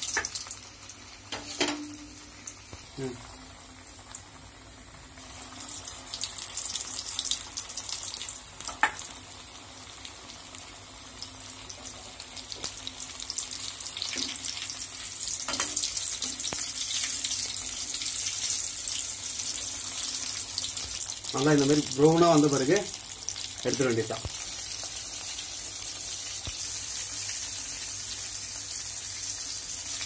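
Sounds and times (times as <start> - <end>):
chicken deep-frying in oil: 0.0 - 30.0.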